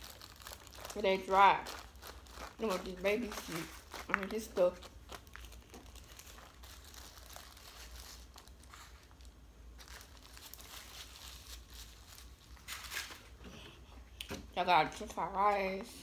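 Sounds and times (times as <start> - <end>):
wax paper crinkling: 0.0 - 13.4.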